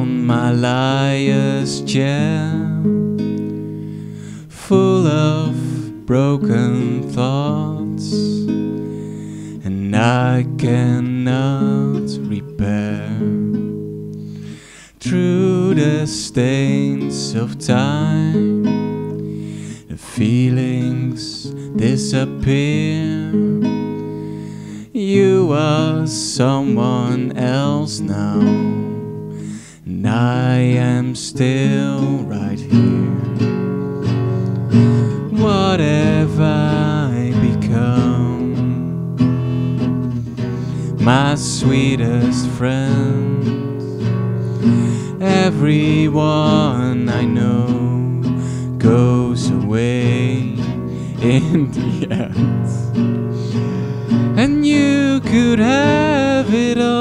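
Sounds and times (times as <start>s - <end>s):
man singing: 0.0s - 2.9s, 4.4s - 8.6s, 9.5s - 13.5s, 15.0s - 18.8s, 19.8s - 23.7s, 24.8s - 28.8s, 29.8s - 33.2s, 34.7s - 39.0s, 40.8s - 44.0s, 44.6s - 57.0s
classical guitar chords: 0.0s - 57.0s.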